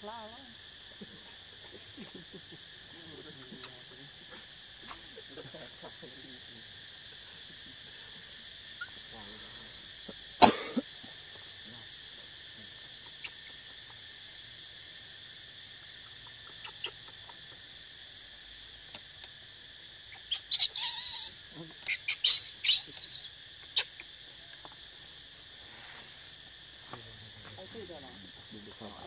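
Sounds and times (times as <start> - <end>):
insects shrilling: 0.0 - 29.0
harsh hissing bursts: 1.7 - 24.0, 24.9 - 27.4.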